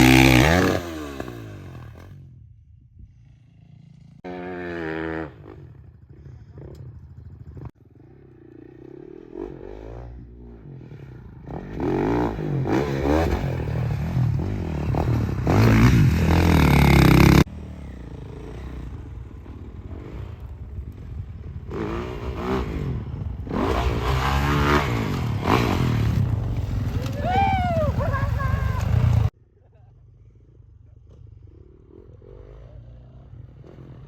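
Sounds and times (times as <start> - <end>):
dirt bike engine revving: 0.0 - 2.3, 3.3 - 29.3.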